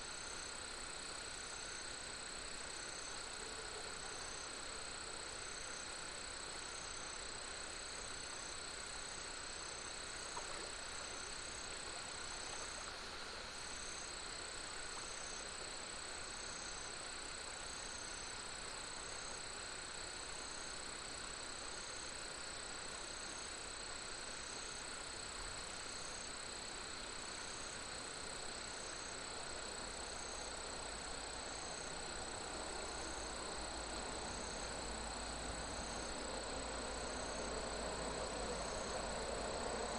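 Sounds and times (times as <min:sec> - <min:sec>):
insects trilling: 0:00.0 - 0:39.9
pulsing insect chirp: 0:00.0 - 0:39.9.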